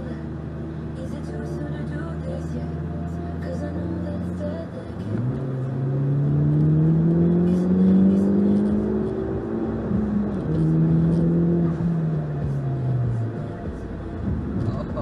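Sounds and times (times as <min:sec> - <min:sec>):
vehicle engine accelerating: 0:00.0 - 0:15.0.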